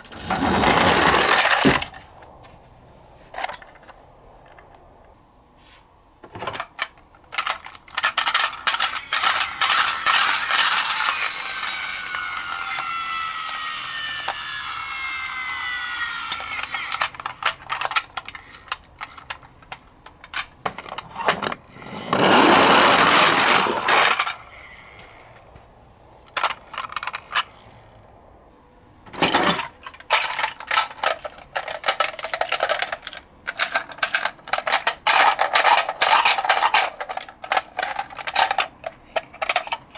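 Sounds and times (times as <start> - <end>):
toy truck clattering: 0.0 - 2.3, 3.3 - 4.8, 6.2 - 25.5, 26.2 - 28.0, 29.0 - 39.9.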